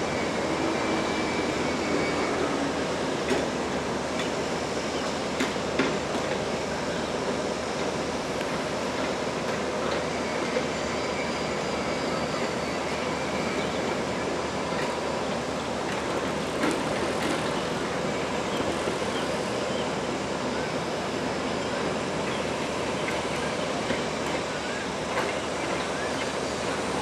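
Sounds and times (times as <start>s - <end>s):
locomotive hauling train: 0.0s - 27.0s.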